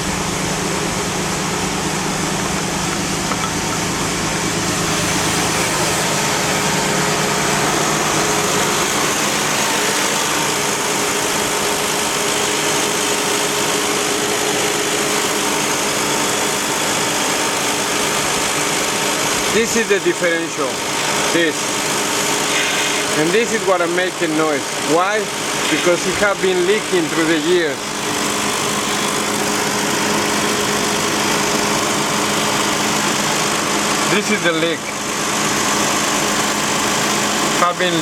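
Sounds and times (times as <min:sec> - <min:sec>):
drivetrain hum and drone: 0:00.0 - 0:38.0.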